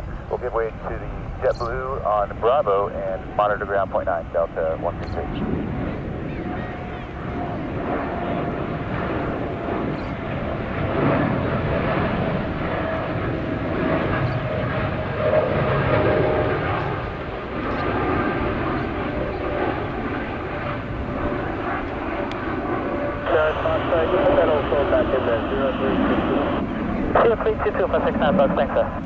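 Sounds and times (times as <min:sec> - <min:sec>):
jet engines rumbling and whining: 0:00.0 - 0:29.0.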